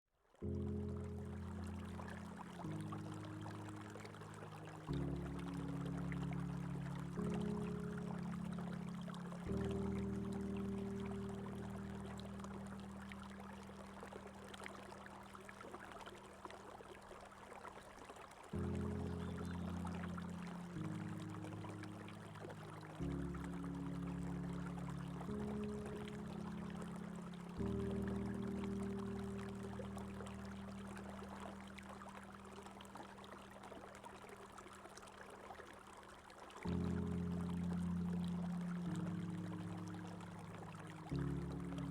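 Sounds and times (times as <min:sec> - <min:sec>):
water trickling and splashing: 0:00.3 - 0:41.9
held low music chord: 0:00.4 - 0:16.3, 0:18.6 - 0:34.0, 0:36.7 - 0:41.9.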